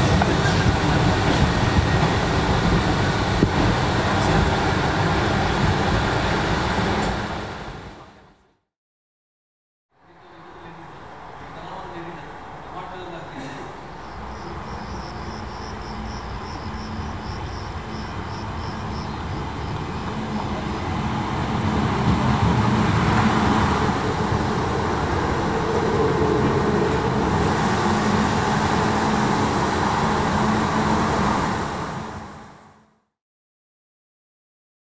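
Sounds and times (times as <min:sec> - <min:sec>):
train wheels rumbling on rails: 0:00.0 - 0:08.2, 0:10.2 - 0:32.7.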